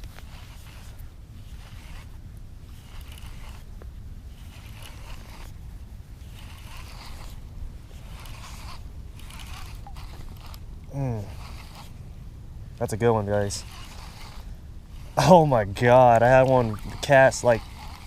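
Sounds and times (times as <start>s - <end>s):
fishing reel ratcheting: 0.0s - 2.1s, 2.7s - 3.7s, 4.3s - 5.6s, 6.2s - 11.9s, 13.3s - 18.0s
low rumble of wind and water: 0.0s - 18.0s.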